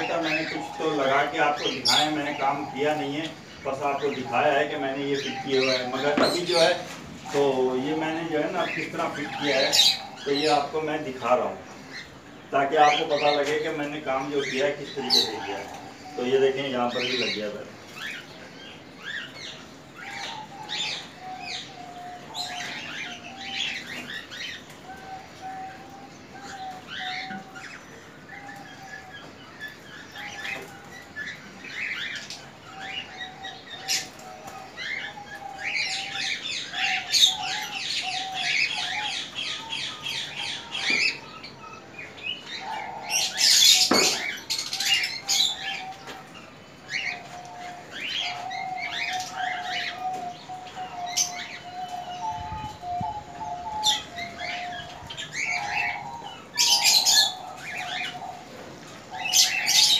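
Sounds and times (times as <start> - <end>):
birds chirping and chattering: 0.0 - 59.9.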